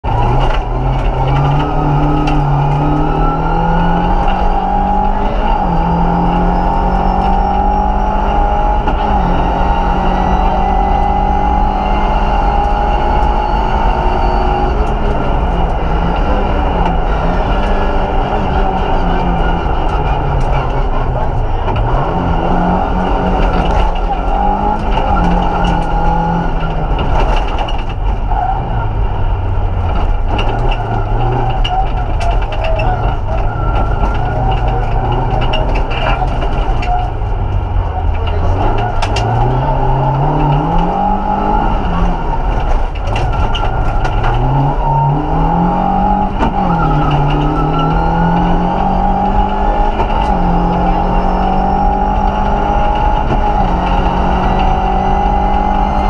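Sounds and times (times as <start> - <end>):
rally car engine revving: 0.0 - 56.0
road and tyre noise: 0.0 - 56.0.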